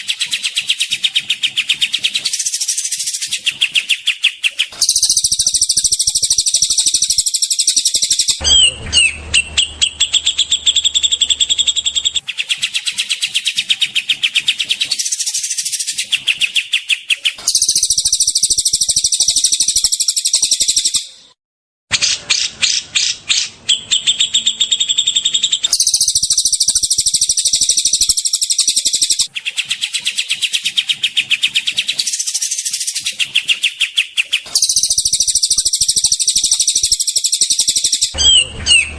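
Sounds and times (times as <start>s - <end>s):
songbirds chirping: 0.0s - 21.4s, 22.0s - 38.9s.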